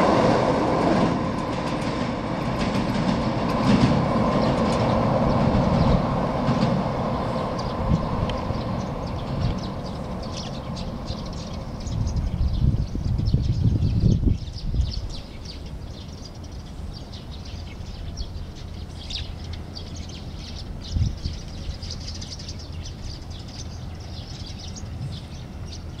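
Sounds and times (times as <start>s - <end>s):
electric train rumble: 0.0s - 26.0s
small birds chirping: 2.6s - 26.0s.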